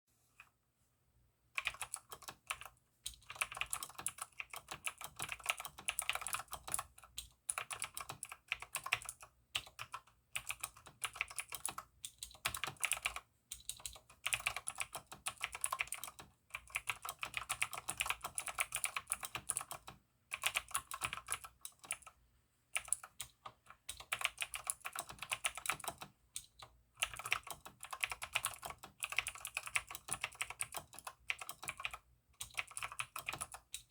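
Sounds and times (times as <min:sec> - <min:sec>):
mechanical keyboard typing: 0:01.6 - 0:22.2, 0:22.8 - 0:33.9.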